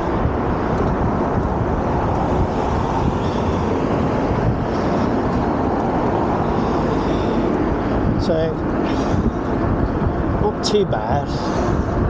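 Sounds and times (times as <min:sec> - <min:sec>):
electric bike road and tyre noise: 0:00.0 - 0:12.0
wind rushing over microphone: 0:00.0 - 0:12.0.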